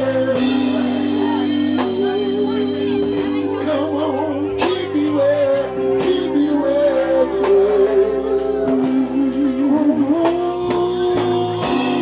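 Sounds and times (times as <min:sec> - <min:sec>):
band playing live: 0:00.0 - 0:12.0
man singing long wavering notes: 0:00.0 - 0:12.0.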